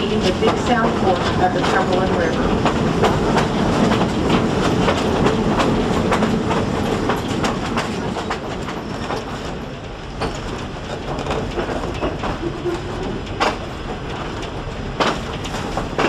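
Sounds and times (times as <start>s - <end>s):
train rumbling on track: 0.0s - 16.0s
wheels clacking and rattling: 0.0s - 16.0s.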